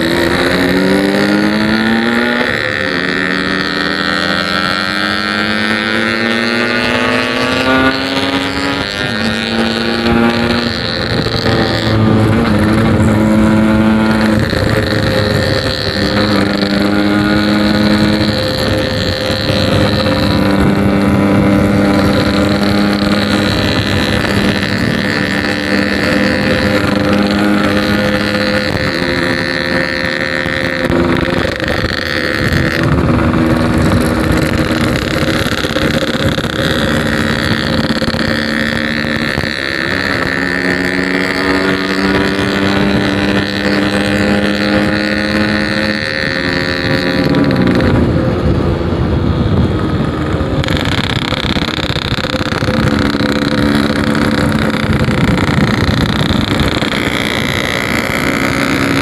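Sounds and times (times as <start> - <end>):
motorcycle engine revving: 0.0 - 59.0
wind on microphone: 0.0 - 59.0.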